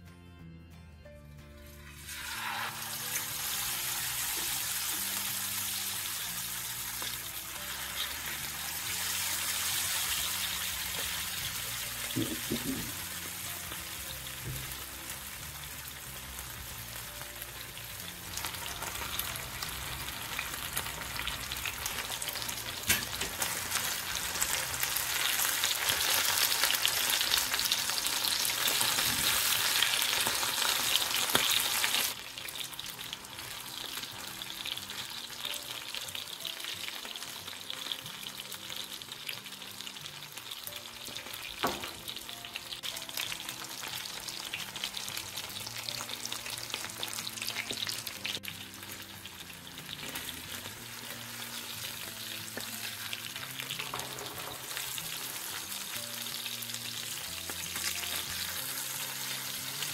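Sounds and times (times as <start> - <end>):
fish sizzling in oil: 1.6 - 59.9.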